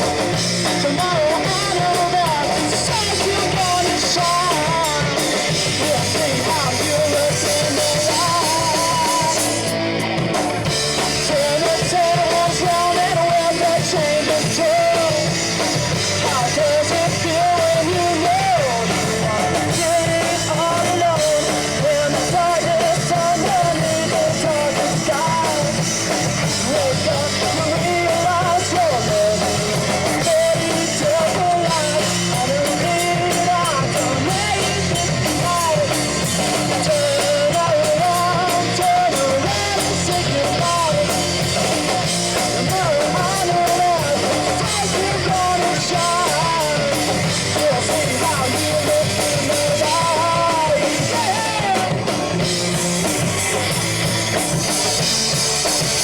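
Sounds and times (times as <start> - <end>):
person singing: 0.0 - 9.9, 10.6 - 56.0
rock band playing: 0.0 - 56.0.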